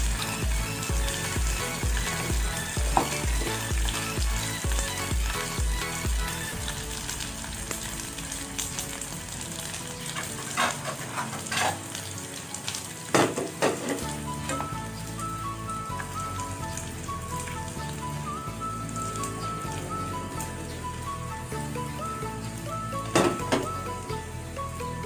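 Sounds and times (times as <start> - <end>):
fish sizzling in hot oil: 0.0 - 24.9
sharp crackles of frying oil: 0.0 - 25.0.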